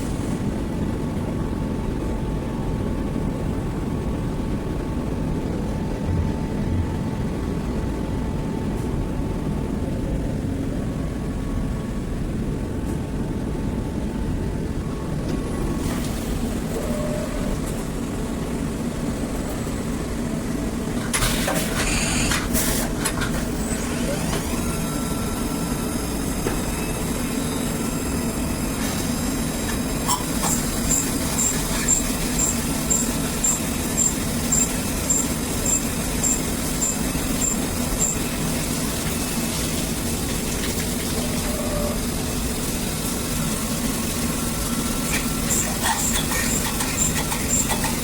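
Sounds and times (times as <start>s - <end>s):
milling machine humming: 3.8s - 9.5s, 14.0s - 48.0s.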